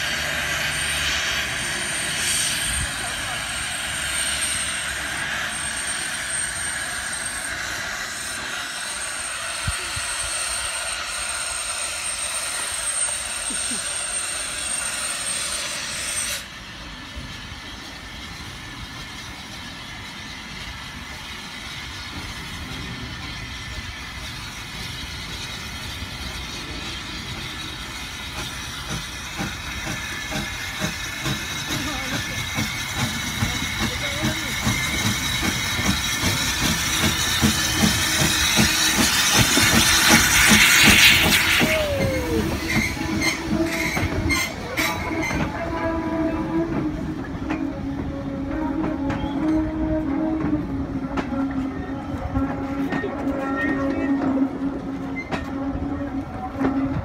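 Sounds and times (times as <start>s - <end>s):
loud steam hiss: 0.0s - 51.0s
locomotive engine rumble: 0.0s - 57.0s
steam locomotive puffs: 0.0s - 57.0s.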